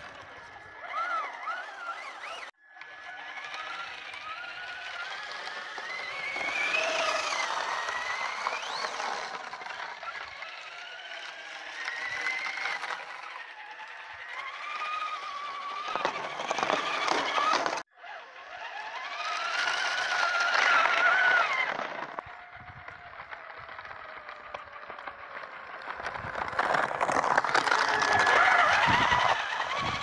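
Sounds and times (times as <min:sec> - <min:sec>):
rc truck motor whining: 0:00.0 - 0:30.0.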